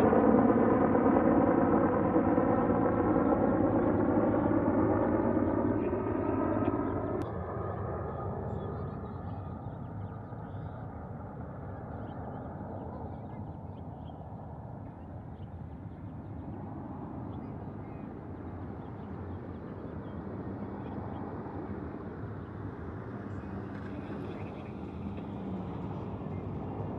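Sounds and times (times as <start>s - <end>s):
distant helicopter rumble: 0.0s - 26.9s.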